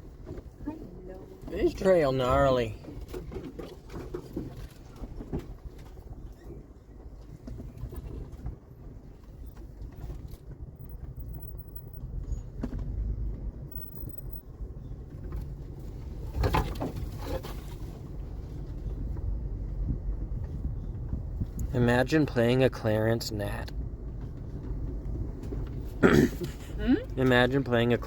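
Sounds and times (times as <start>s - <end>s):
branches scraping vehicle: 0.0s - 11.1s, 11.9s - 19.4s, 21.6s - 28.0s
vehicle engine low rumble: 0.0s - 28.0s.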